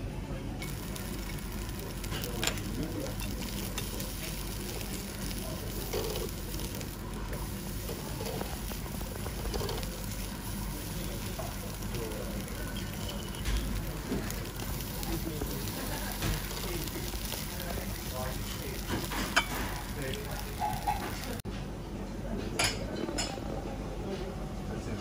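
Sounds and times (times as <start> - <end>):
meat sizzling on grill: 0.6 - 21.4.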